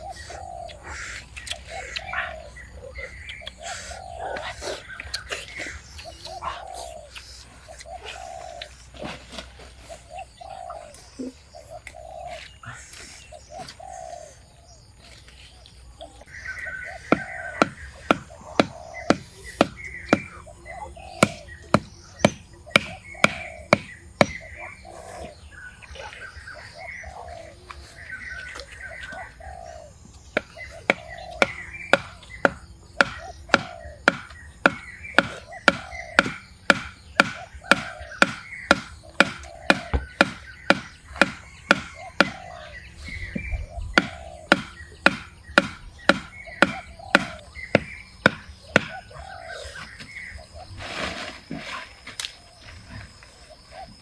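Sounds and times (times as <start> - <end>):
bird calling: 0.0 - 54.0.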